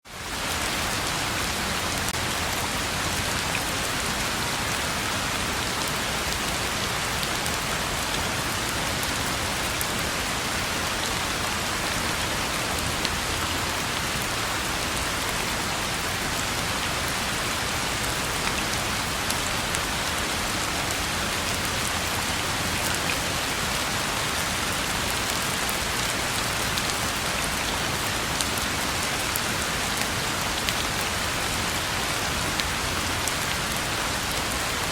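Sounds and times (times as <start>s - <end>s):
rain hissing on a road: 0.1s - 34.9s.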